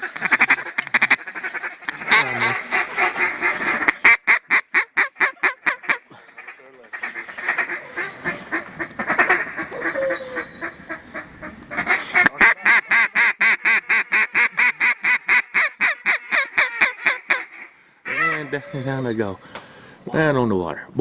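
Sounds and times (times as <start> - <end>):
duck call quacks: 0.0 - 18.8.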